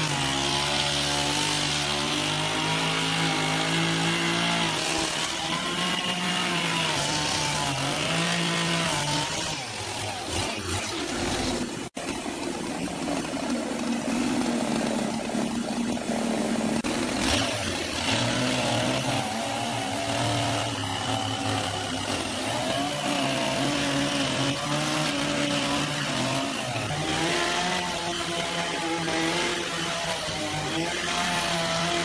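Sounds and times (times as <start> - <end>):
chainsaw cutting log: 0.0 - 32.0.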